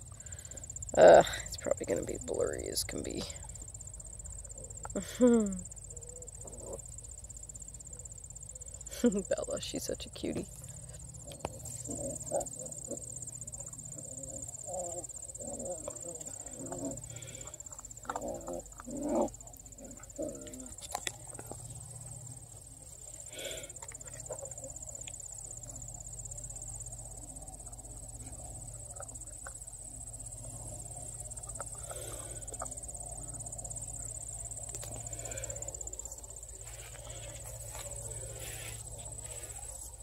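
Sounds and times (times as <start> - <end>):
insects trilling: 0.0 - 40.0
low steady rumble: 0.0 - 40.0.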